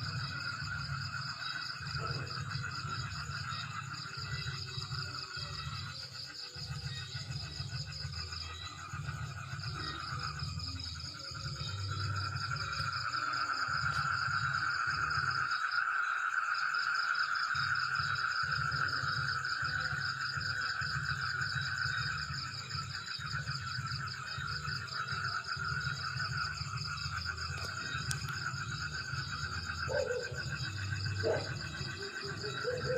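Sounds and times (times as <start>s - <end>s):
high pulsing insect trill: 0.0s - 32.9s
lower insect trill: 0.0s - 32.9s.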